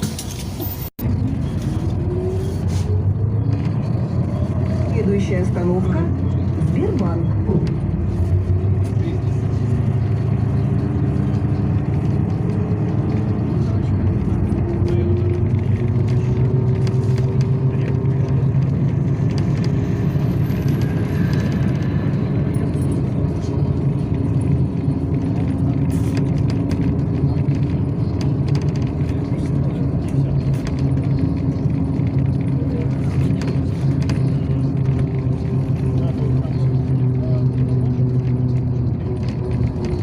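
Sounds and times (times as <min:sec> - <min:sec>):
bus engine drone: 0:00.0 - 0:40.0
road rumble: 0:00.0 - 0:40.0.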